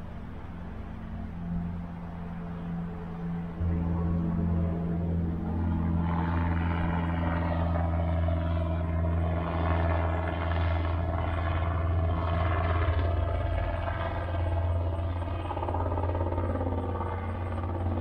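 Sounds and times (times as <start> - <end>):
helicopter engine and rotors humming: 0.0 - 18.0.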